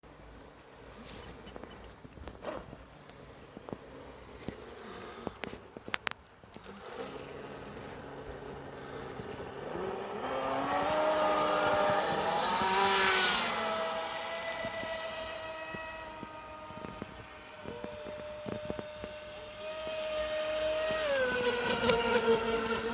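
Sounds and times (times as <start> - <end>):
model boat motor droning: 3.0 - 22.9.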